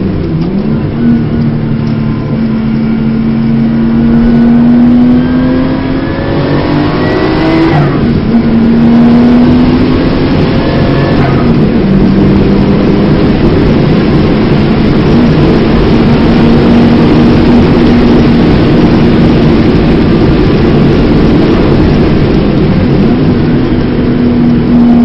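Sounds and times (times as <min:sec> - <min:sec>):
car engine at full throttle: 0:00.0 - 0:25.0
wind and road noise: 0:00.0 - 0:25.0.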